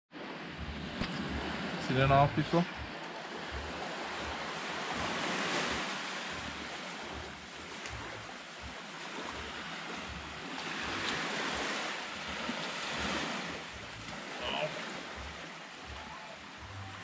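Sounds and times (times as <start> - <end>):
small waves washing on beach: 0.1 - 17.0.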